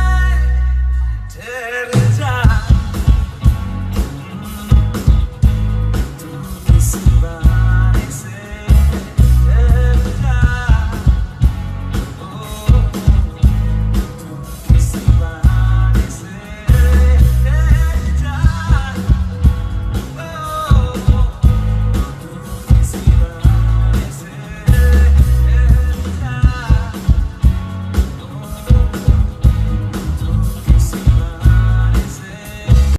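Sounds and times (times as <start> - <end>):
man singing: 0.0 - 3.5, 6.1 - 32.9
live band music: 0.0 - 32.9.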